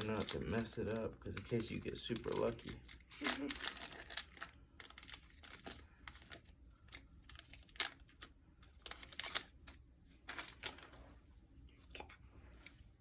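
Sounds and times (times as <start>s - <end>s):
card pack wrapper crinkling and tearing: 0.0s - 10.9s.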